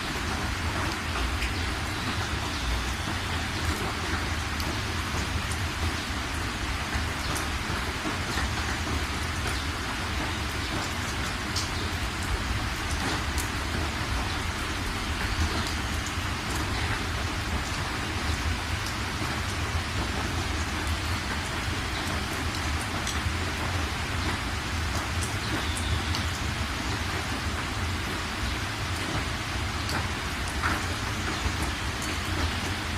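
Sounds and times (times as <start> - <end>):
raindrops ticking: 0.0 - 32.9
steady rain hiss: 0.0 - 32.9.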